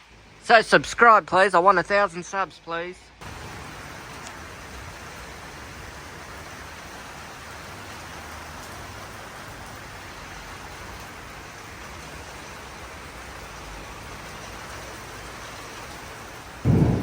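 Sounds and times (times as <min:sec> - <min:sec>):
steady rain: 0:00.0 - 0:02.2, 0:03.1 - 0:17.0.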